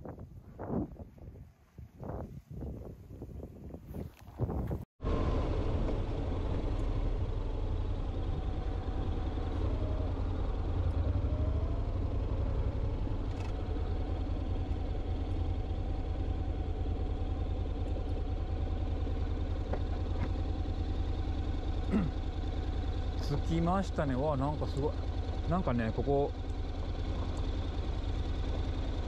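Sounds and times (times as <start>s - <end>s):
motorcycle engine running: 5.0s - 29.0s.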